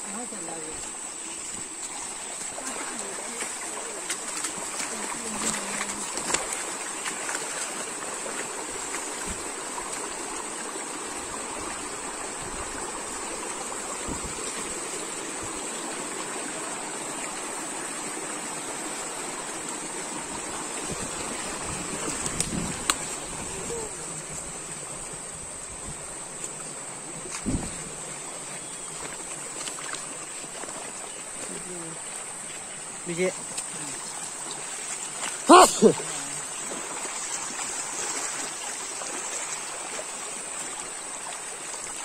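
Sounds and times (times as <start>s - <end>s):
stream rushing over rocks: 0.0s - 42.0s.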